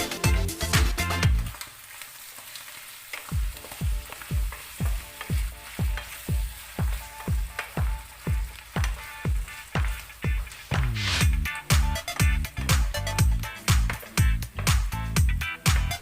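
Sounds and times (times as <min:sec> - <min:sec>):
dance music beat: 0:00.0 - 0:01.5, 0:03.3 - 0:16.0
food sizzling in a pan: 0:00.0 - 0:16.0.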